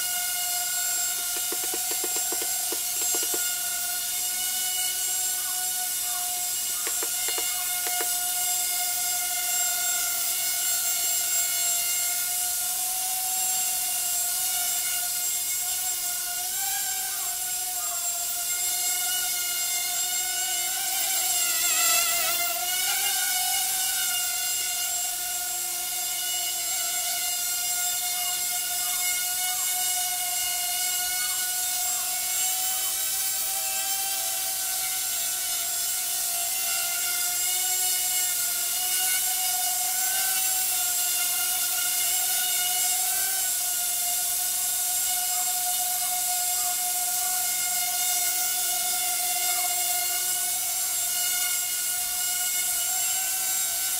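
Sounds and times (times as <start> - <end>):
quadcopter propellers whining: 0.0 - 53.9.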